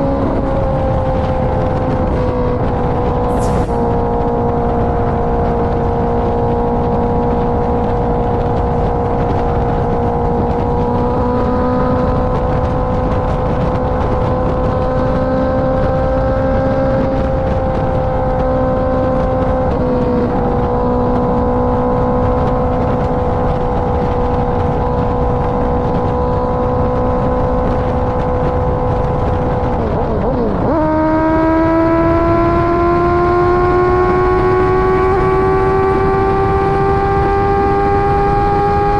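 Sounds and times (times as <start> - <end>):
motorcycle engine running: 0.0 - 38.9
wind rushing: 0.0 - 38.9.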